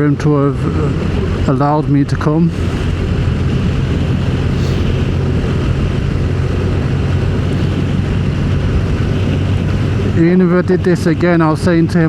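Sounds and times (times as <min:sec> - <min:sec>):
motorcycle engine drone: 0:00.0 - 0:12.0
wind and road noise: 0:00.0 - 0:12.0.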